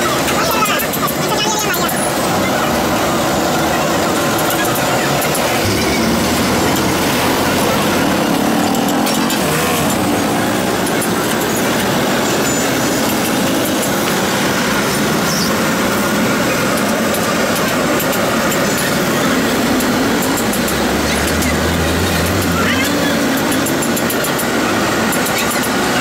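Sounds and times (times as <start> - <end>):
small engines running: 0.0 - 26.0
street traffic: 0.0 - 26.0.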